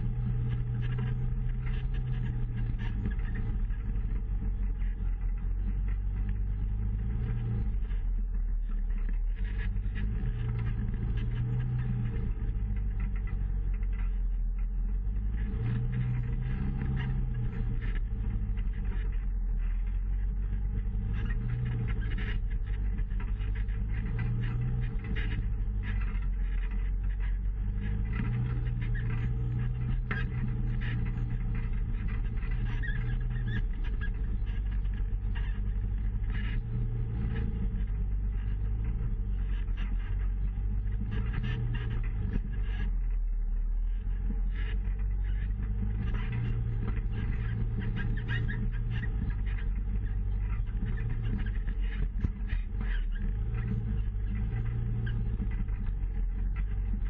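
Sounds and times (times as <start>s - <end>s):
utility vehicle engine revving: 0.0s - 57.0s
vehicle rattling over rocks: 0.0s - 57.0s.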